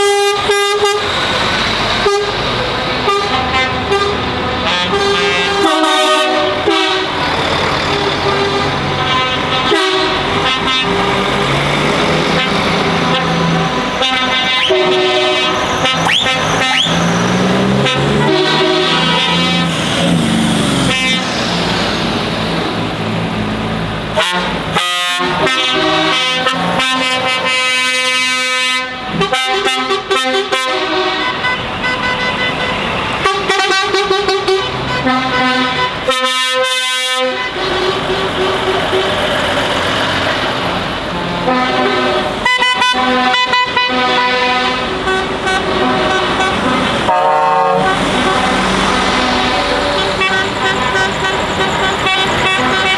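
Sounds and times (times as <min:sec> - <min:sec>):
lorry engines running: 0:00.0 - 0:52.9
truck horns tooting and blasting: 0:00.0 - 0:52.9.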